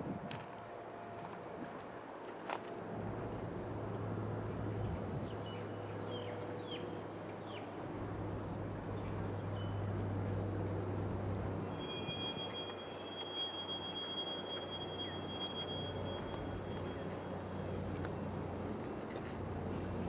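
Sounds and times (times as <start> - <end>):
high insect trill: 0.0 - 20.0
locomotive engine drone: 2.8 - 20.0.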